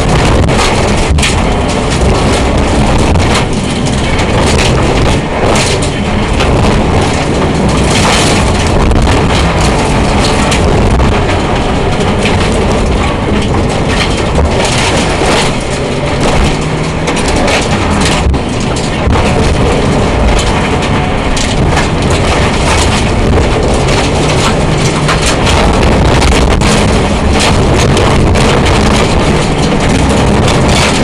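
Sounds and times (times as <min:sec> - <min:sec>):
engine and road rumble: 0:00.0 - 0:31.0.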